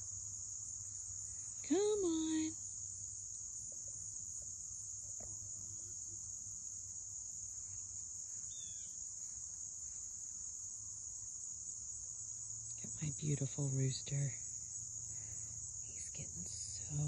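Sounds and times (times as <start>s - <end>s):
field insects chorus: 0.0s - 17.0s.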